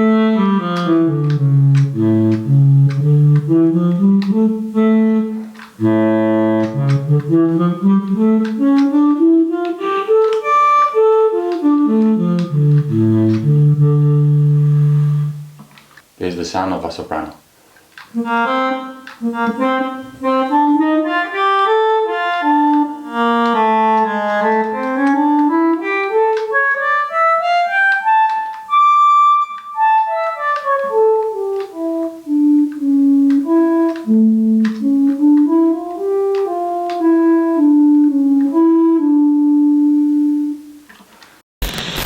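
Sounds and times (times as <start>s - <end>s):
electronic saxophone solo melody: 0.0s - 15.6s, 18.1s - 40.8s.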